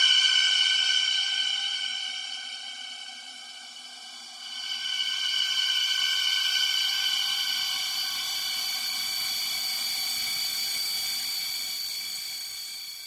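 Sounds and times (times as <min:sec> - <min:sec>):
airy hissy drone: 0:00.3 - 0:13.0.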